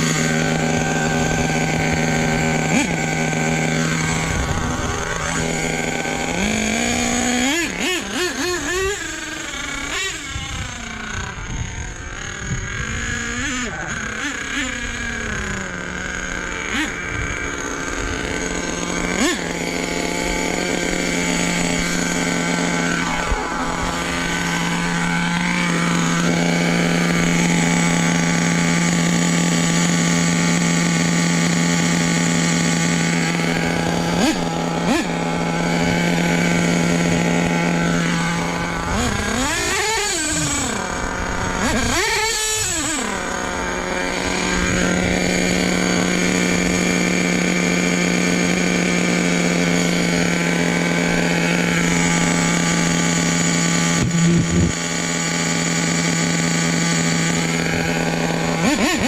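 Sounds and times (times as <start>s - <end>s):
model truck engine running: 0.0s - 59.0s.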